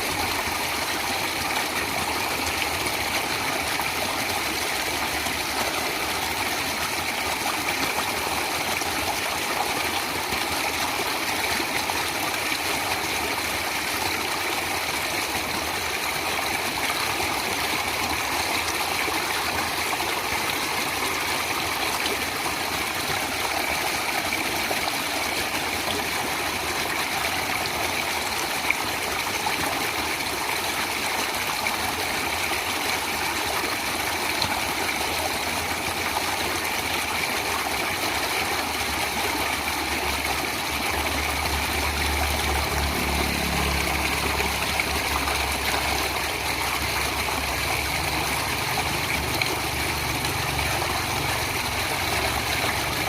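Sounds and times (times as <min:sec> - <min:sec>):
flowing water: 0:00.0 - 0:53.0.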